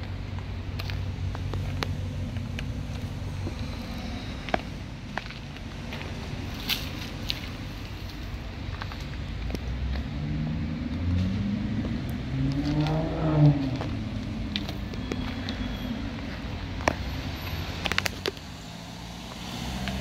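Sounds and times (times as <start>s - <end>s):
vehicle engine revving: 0.3s - 20.0s.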